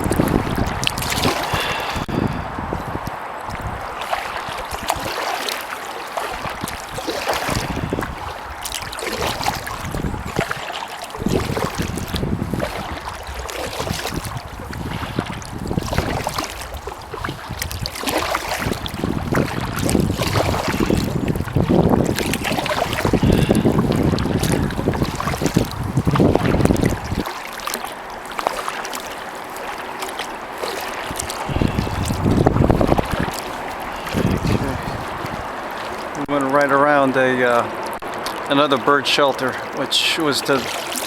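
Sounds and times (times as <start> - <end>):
kayak paddle splashing: 0.0 - 41.0
wind buffeting microphone: 0.0 - 41.0.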